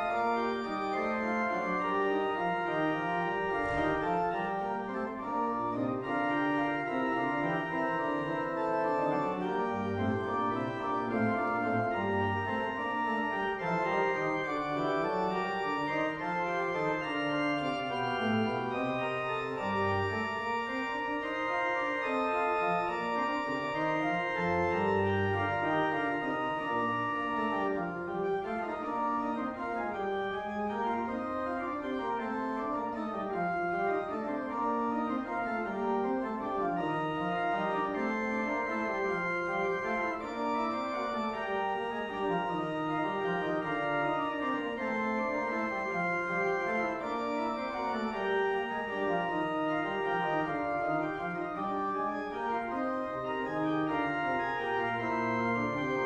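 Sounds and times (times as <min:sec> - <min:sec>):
organ playing chords: 0:00.0 - 0:56.0.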